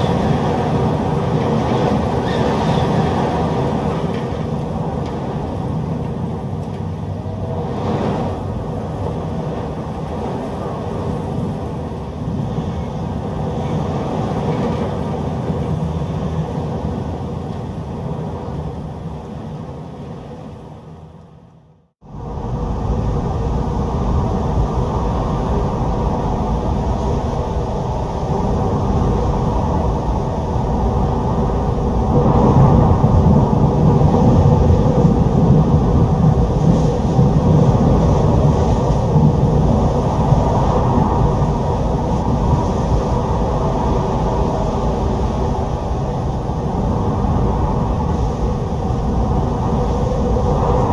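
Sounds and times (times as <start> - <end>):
strong gusting wind: 0.0 - 20.9, 22.0 - 50.9.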